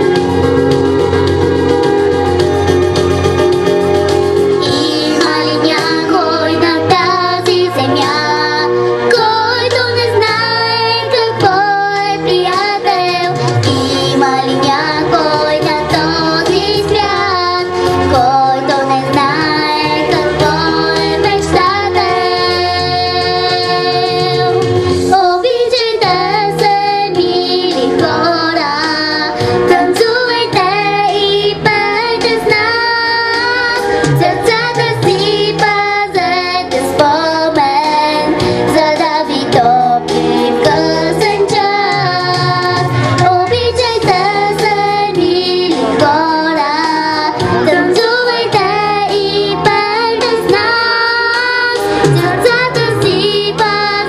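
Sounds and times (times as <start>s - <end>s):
instrumental accompaniment: 0.0s - 54.0s
girl singing into microphone: 4.6s - 54.0s.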